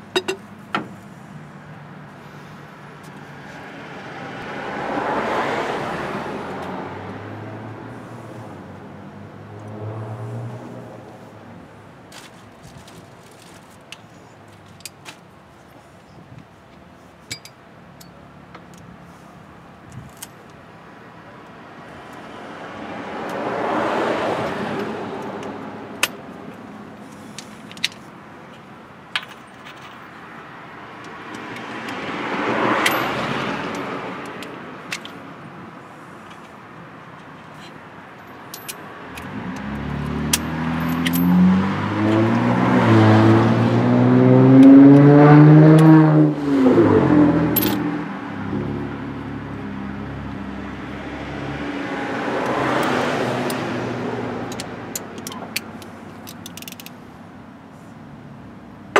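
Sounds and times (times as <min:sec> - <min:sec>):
vehicles passing: 0:00.0 - 0:58.9.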